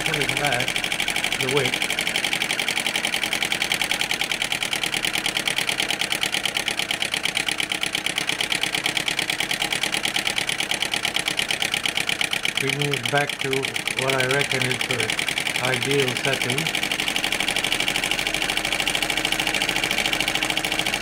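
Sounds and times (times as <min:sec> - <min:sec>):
model engine clattering: 0:00.0 - 0:21.0.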